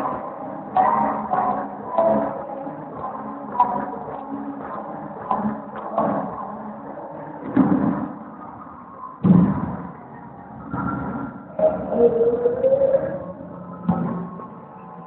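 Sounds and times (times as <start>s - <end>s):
faint muffled music: 0.0s - 15.0s.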